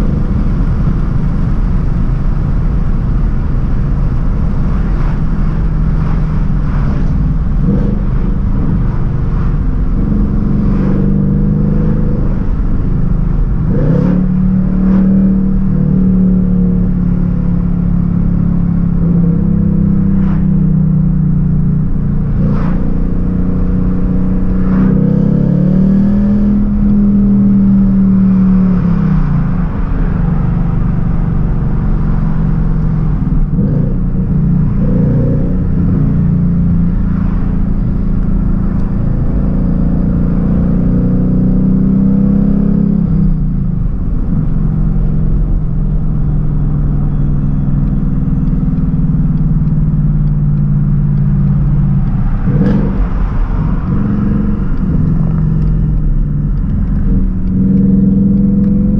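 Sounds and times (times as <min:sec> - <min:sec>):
car engine accelerating: 0:00.0 - 0:58.9
road noise: 0:00.0 - 0:58.9.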